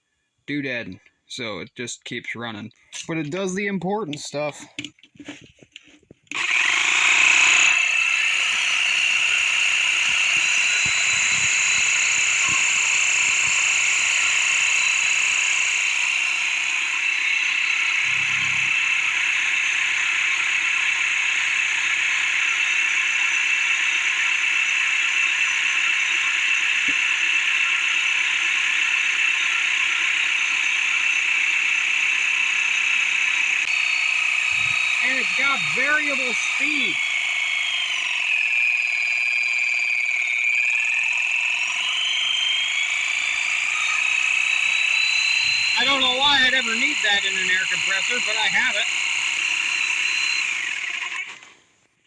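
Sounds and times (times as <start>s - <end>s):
drill-driven air compressor whining: 4.7s - 51.6s.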